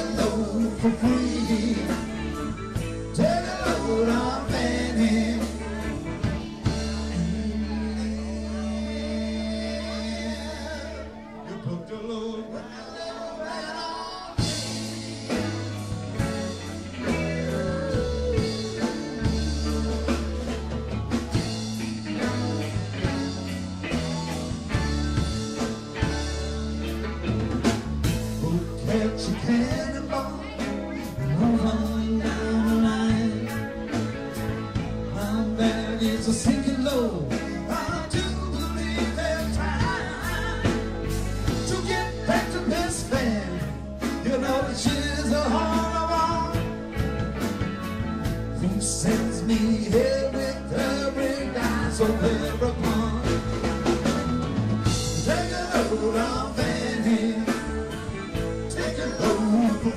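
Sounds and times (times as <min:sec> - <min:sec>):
drums keeping a beat: 0:00.0 - 0:11.0, 0:14.3 - 0:59.9
live rock band: 0:00.0 - 0:59.9.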